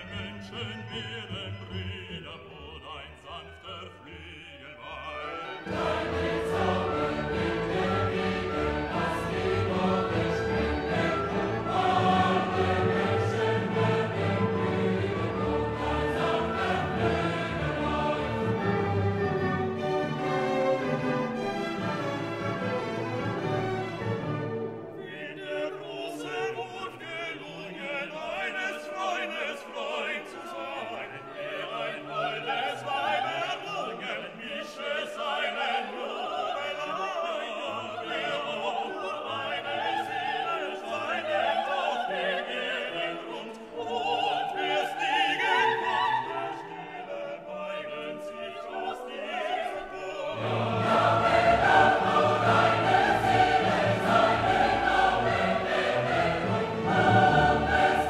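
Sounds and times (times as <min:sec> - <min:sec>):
operatic singing with orchestra: 0:00.0 - 0:58.0.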